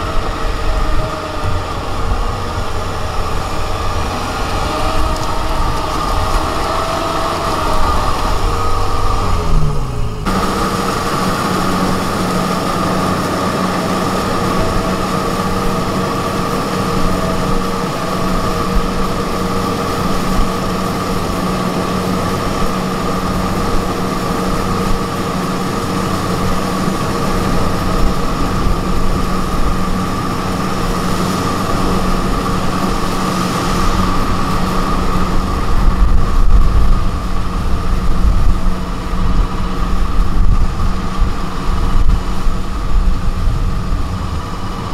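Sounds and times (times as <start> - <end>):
constant whine: 0.0 - 44.9
diesel engine running: 0.0 - 44.9.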